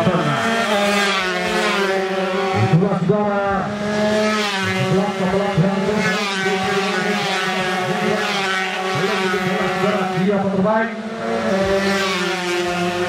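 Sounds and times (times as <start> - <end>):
motorcycles accelerating hard: 0.0 - 13.0.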